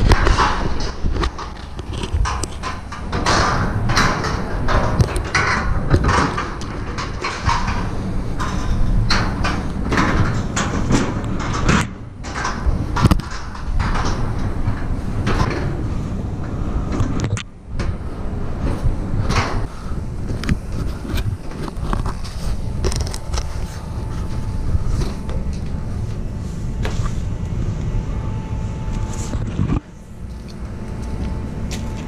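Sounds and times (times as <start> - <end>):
camera rumble and rustle: 0.0 - 32.0.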